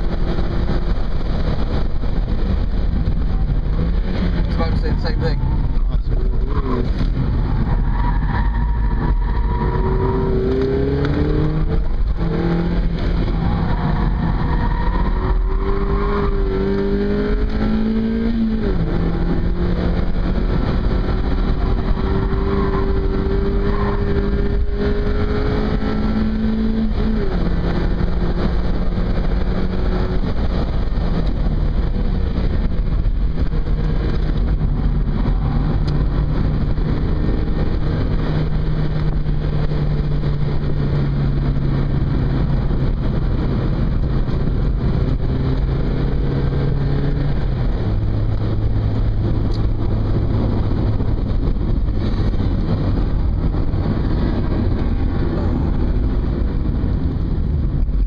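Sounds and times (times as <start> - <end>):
car engine accelerating: 0.0 - 58.0
road and wind noise: 0.0 - 58.0.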